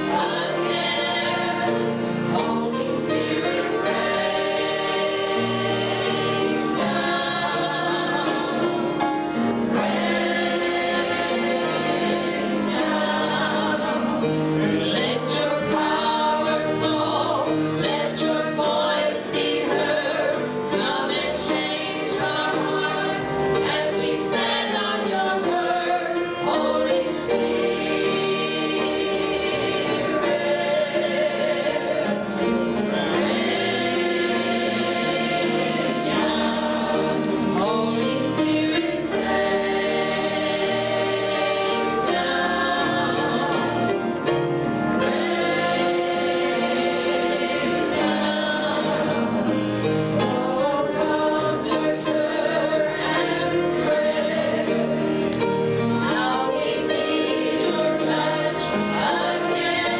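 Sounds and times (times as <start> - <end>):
women singing gospel in harmony: 0.0 - 59.9.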